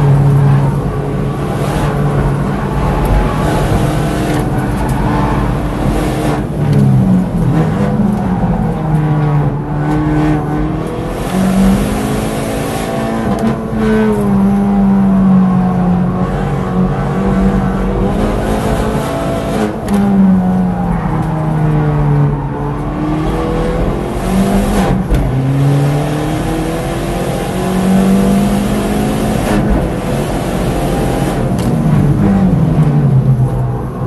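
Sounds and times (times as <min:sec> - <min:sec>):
car engine revving: 0:00.0 - 0:34.0
tyre and road noise: 0:00.0 - 0:34.0.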